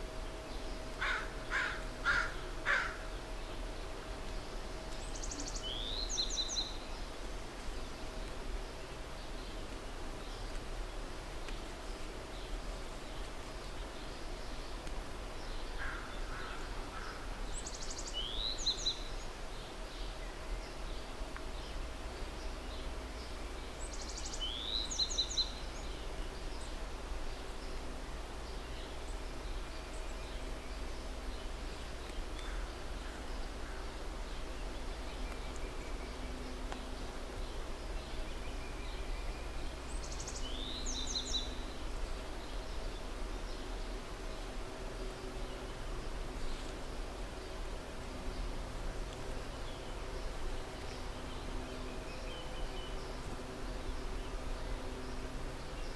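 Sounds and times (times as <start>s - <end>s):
low outdoor background noise: 0.0s - 55.9s.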